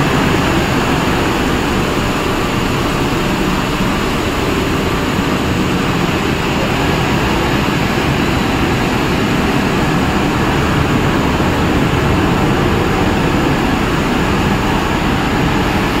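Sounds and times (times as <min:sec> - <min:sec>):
blower fan: 0:00.0 - 0:16.0
conveyor running: 0:00.0 - 0:16.0.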